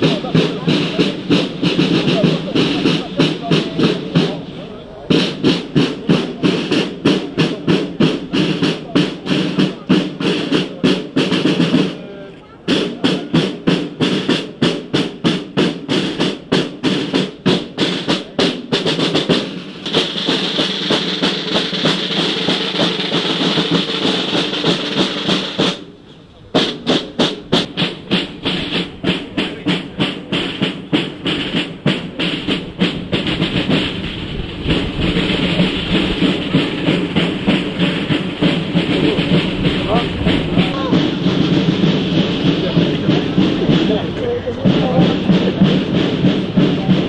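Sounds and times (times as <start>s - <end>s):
marching band music: 0.0s - 47.0s
snare drums march cadence: 0.0s - 47.0s.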